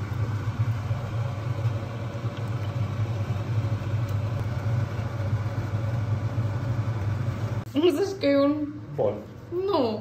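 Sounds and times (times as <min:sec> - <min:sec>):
kitchen fan humming: 0:00.0 - 0:10.0.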